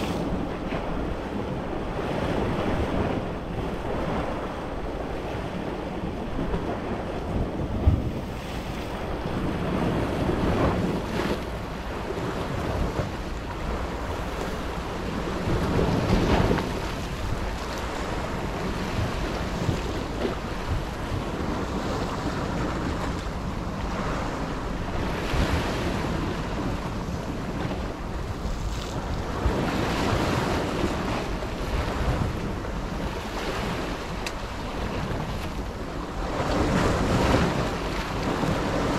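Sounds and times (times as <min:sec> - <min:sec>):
waves breaking against rocks: 0:00.0 - 0:38.9
wind buffeting microphone: 0:00.0 - 0:38.9.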